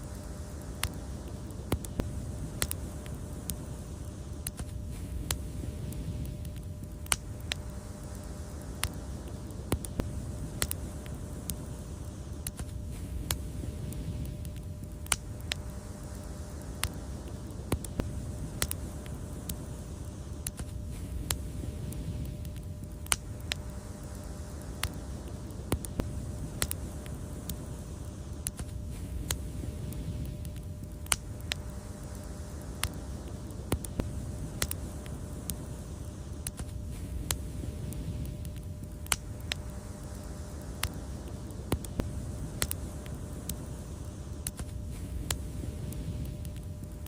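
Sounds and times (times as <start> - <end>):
low rumble of burning fire: 0.0 - 47.0
wood fire crackling: 0.0 - 47.0.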